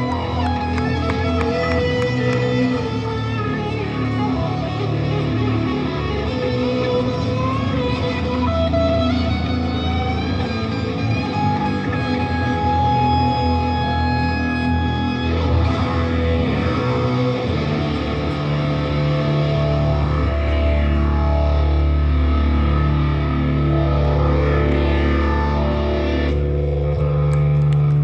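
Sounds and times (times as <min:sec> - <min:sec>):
live band electric guitars: 0:00.0 - 0:28.0.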